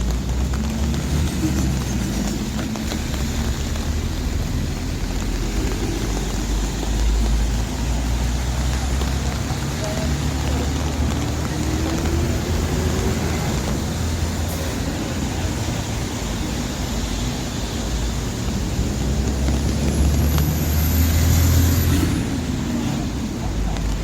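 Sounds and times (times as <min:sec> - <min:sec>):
cars and buses passing: 0:00.0 - 0:24.0
vehicle engine: 0:00.0 - 0:24.0.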